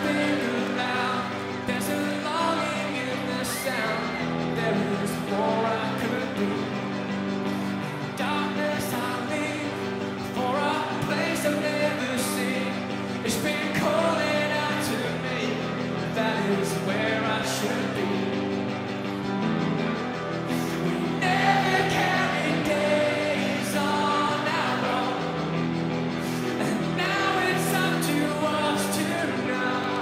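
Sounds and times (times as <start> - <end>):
man singing: 0.0 - 7.0, 7.8 - 18.6, 20.5 - 25.5, 26.4 - 30.0
rock band playing live: 0.0 - 30.0.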